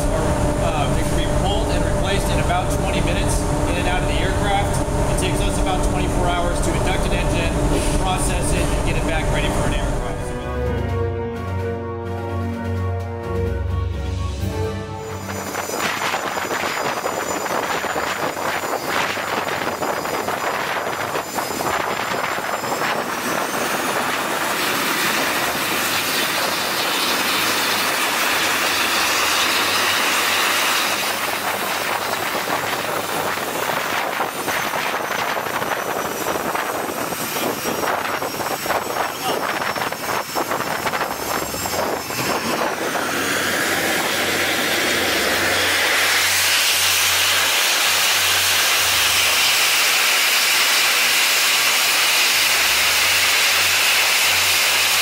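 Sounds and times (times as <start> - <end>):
jet engine roaring with whine: 0.0 - 11.2, 12.2 - 55.0.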